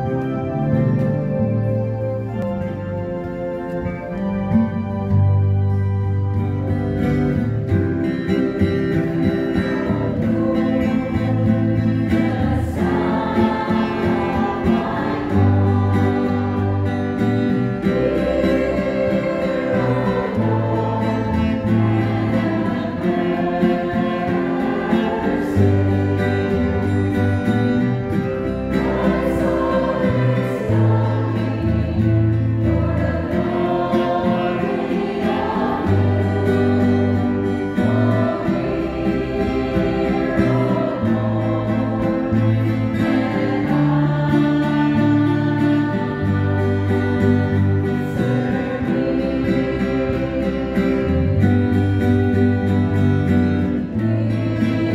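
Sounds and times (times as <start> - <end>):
choir singing a hymn: 0.0 - 54.9
strummed guitars: 0.0 - 54.9.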